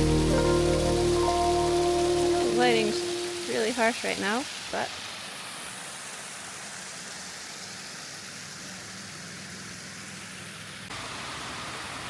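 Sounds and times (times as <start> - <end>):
water rushing down a cascade: 0.0 - 12.0.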